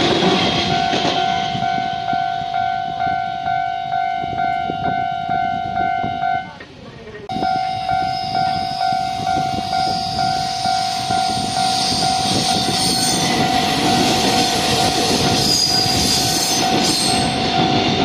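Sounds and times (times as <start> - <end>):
level-crossing warning bell ringing: 0.0 - 6.6, 7.3 - 18.0.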